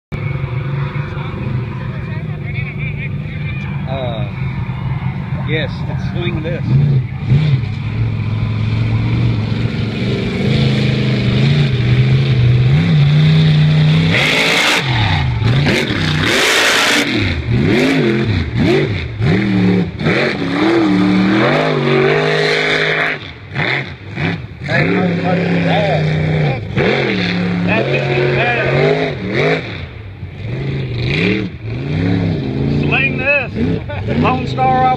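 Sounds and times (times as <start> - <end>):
truck engine revving: 0.1 - 34.9.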